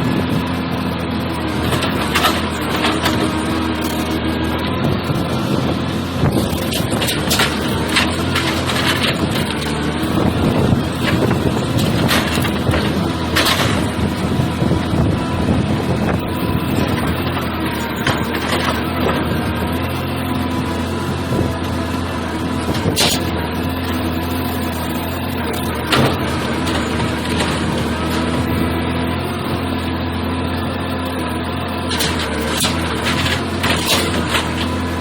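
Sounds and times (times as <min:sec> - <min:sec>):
sawmill machinery droning: 0:00.0 - 0:35.0.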